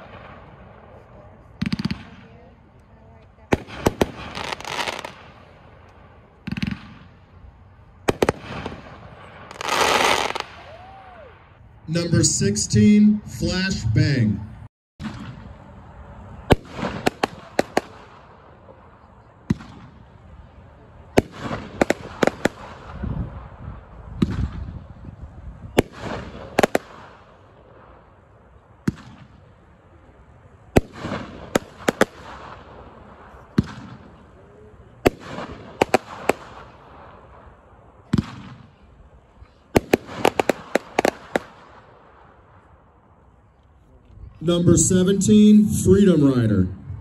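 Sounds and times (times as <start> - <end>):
firework bangs and crackling: 0.0 - 11.6, 15.0 - 43.5.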